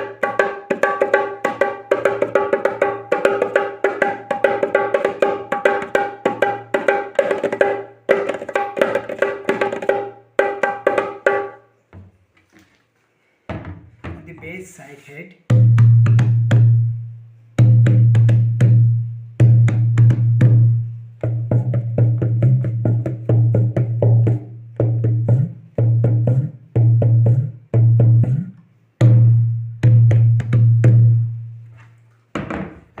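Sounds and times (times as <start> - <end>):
dholak drum playing: 0.0 - 11.6, 15.5 - 17.0, 17.6 - 31.3.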